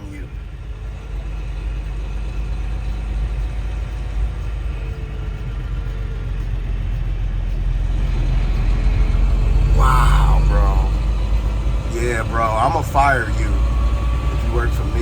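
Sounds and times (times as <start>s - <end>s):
low road rumble: 0.0s - 15.0s
truck engine running: 0.0s - 15.0s.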